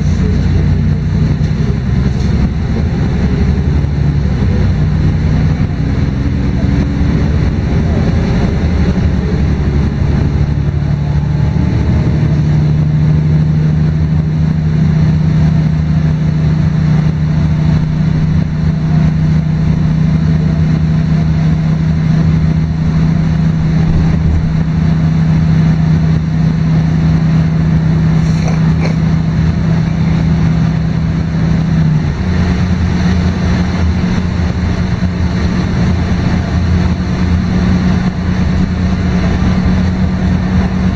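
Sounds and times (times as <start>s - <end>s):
bus diesel engine drone: 0.0s - 40.9s.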